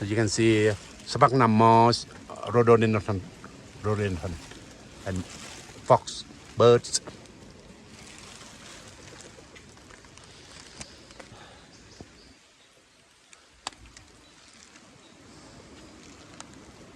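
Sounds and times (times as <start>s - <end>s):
faint outdoor ambience: 0.0s - 16.9s.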